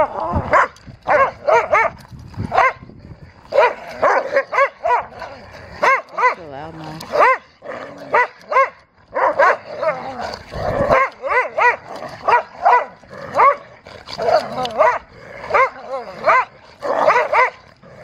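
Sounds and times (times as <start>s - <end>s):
dogs barking and yipping: 0.0s - 17.8s.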